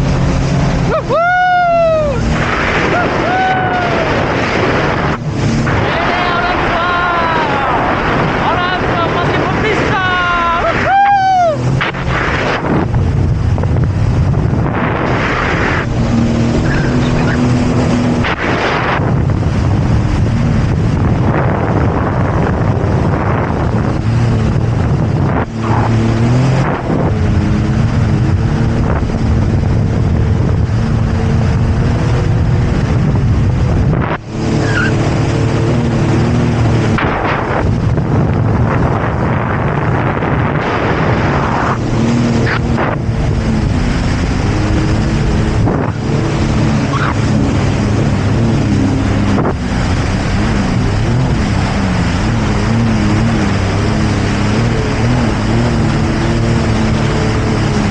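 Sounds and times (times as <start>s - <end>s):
jet ski engine: 0.0s - 57.9s
wind and water spray: 0.0s - 57.9s.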